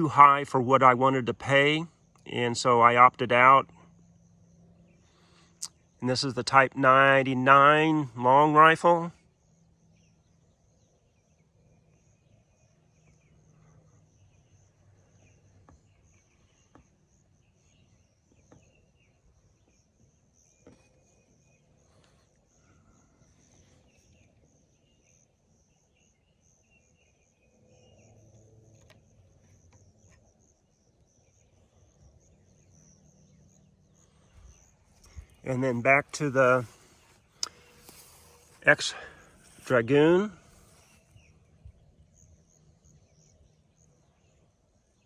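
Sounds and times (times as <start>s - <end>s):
insect trill: 0.0s - 45.0s.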